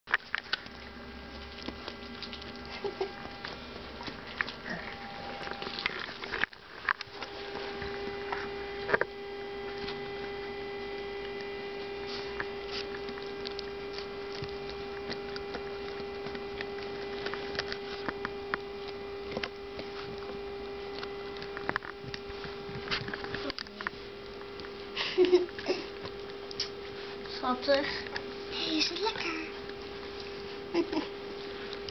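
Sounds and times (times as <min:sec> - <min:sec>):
electrical hum: 0:00.0 - 0:31.9
puppy gnawing a chew treat: 0:00.1 - 0:31.9.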